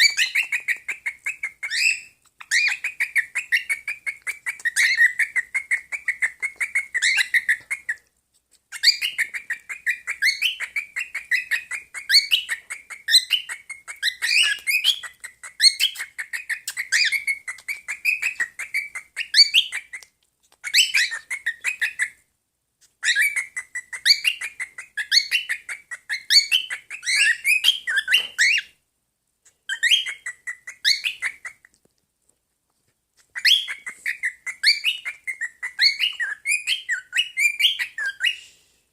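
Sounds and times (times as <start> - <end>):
pet birds chirping and warbling: 0.0 - 22.2, 22.8 - 28.8, 29.5 - 31.7, 33.2 - 38.4.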